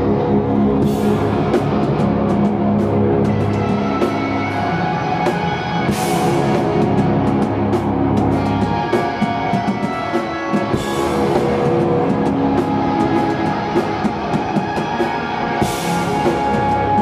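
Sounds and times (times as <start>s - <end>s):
metal band playing: 0.0s - 17.0s.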